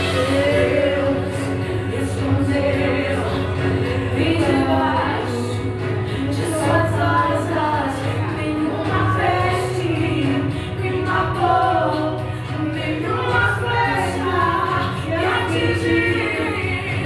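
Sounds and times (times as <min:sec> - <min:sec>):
musical accompaniment: 0:00.0 - 0:17.0
woman singing gospel: 0:00.0 - 0:17.0.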